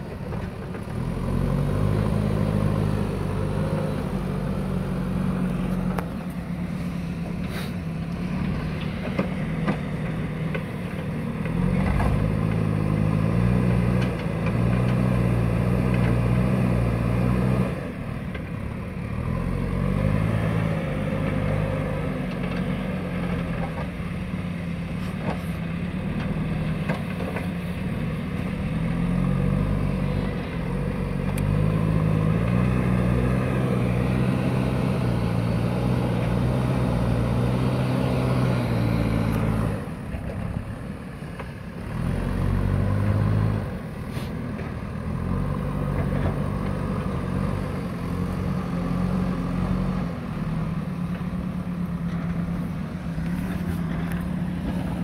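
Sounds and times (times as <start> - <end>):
diesel engine working hard: 0.0 - 55.0.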